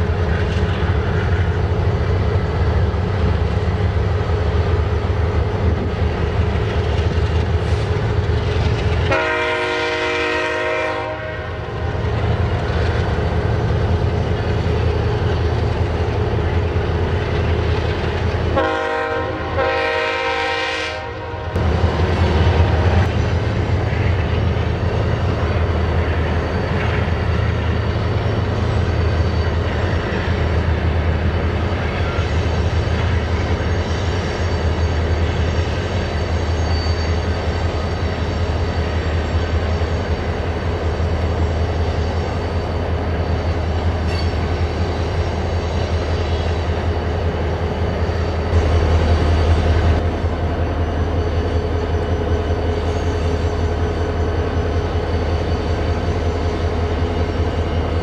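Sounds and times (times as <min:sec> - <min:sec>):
freight cars rumbling on rails: 0:00.0 - 0:58.0
locomotive engines droning: 0:00.0 - 0:58.0.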